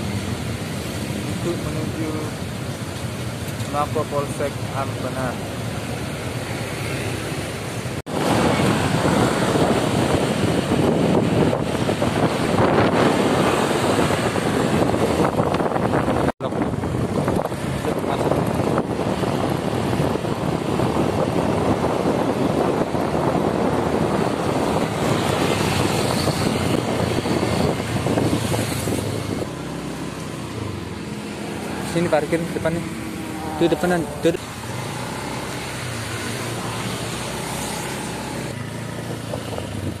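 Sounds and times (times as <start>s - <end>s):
road and traffic noise: 0.0s - 40.0s
wind rushing over microphone: 6.5s - 40.0s.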